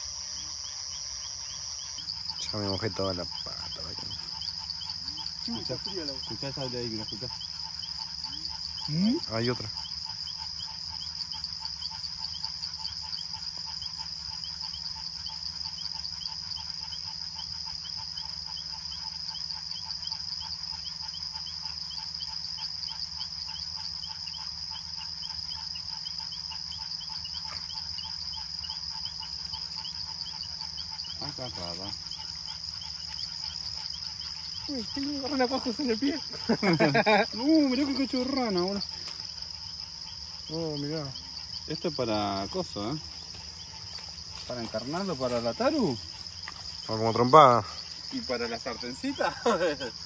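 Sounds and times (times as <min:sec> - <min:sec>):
high-pitched insect trill: 0:00.0 - 0:50.0
rapid cricket chirps: 0:00.0 - 0:50.0.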